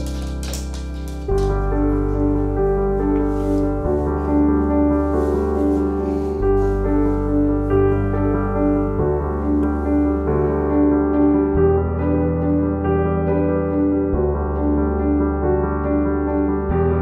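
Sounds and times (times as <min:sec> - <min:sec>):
piano melody over low chords: 0:00.0 - 0:17.0.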